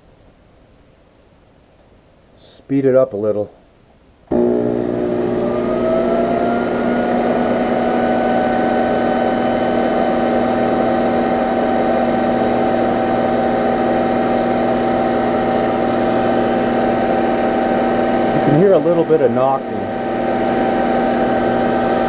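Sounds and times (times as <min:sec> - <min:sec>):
metal lathe whining: 0:04.3 - 0:22.0.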